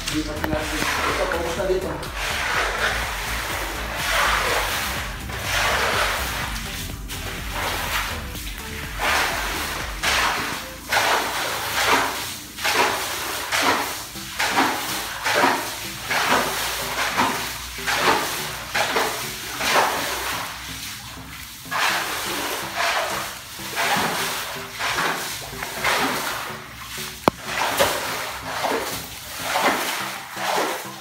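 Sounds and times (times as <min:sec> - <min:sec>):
water splashing as floor is scrubbed: 0:00.0 - 0:31.0.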